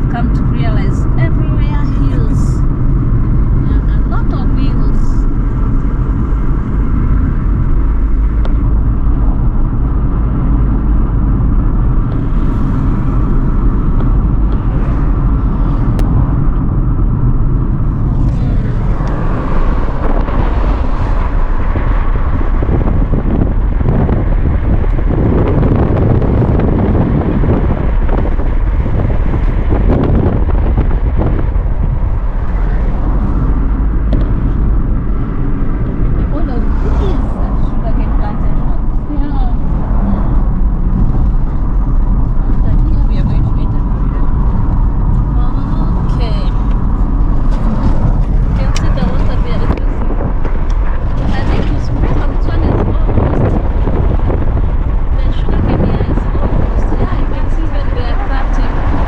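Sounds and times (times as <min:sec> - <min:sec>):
car engine and tyre noise: 0:00.0 - 0:59.0
traffic: 0:00.0 - 0:59.0.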